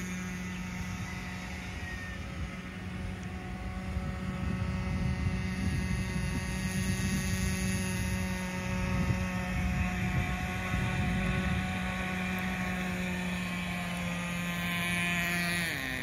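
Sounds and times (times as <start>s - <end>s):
distant model boat engine buzzing: 0.0s - 16.0s.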